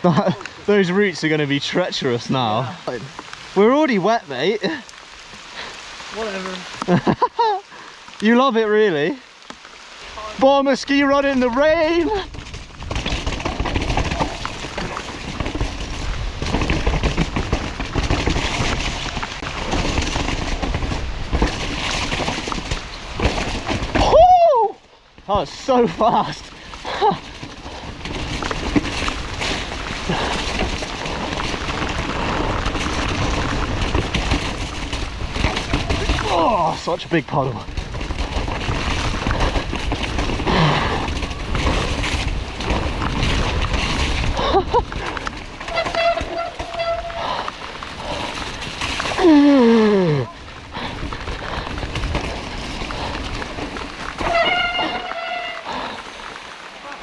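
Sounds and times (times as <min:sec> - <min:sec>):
bike clattering over roots: 0:06.7 - 0:57.0.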